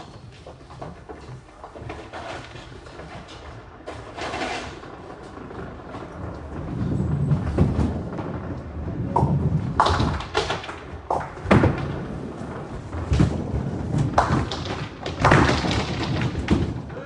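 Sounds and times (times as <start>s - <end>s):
bowling balls rolling rumble: 0.0s - 17.0s
bowling pins clattering: 0.0s - 17.0s.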